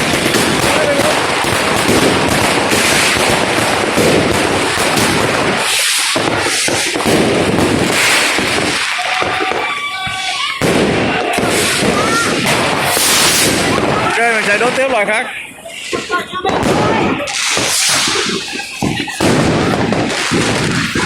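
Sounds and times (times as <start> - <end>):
fireworks and firecrackers crackling: 0.0 - 21.0
fireworks whistling: 0.0 - 21.0.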